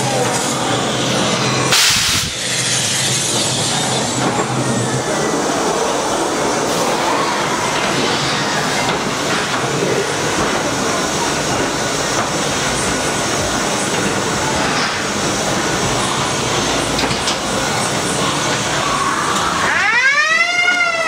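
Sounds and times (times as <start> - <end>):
wheels rolling on rail track: 0.0 - 19.7.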